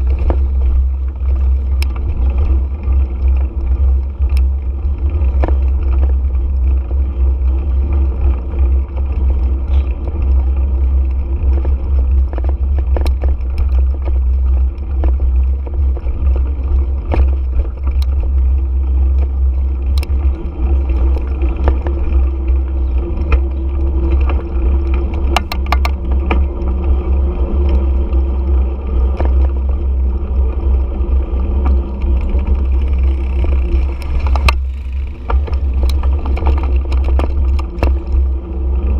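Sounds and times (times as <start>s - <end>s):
clicks and rattles: 0.0s - 28.2s, 31.5s - 38.2s
motorcycle engine rumble: 0.0s - 38.9s.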